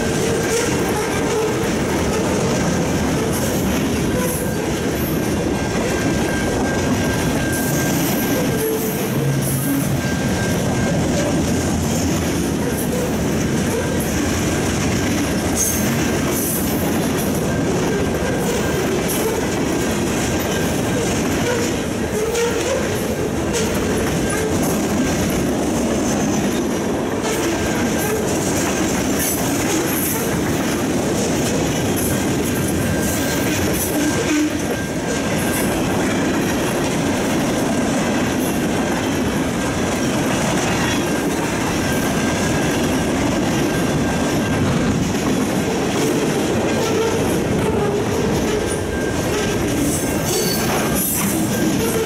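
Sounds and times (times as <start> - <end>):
rail joint clicks: 0.0 - 52.0
train wheels rumbling on rail: 0.0 - 52.0.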